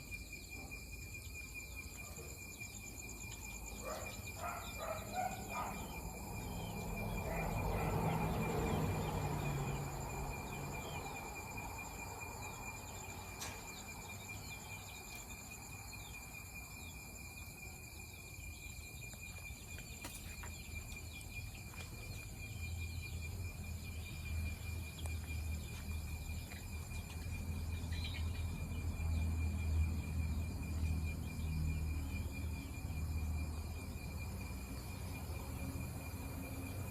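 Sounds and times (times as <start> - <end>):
crickets trilling: 0.0 - 36.9.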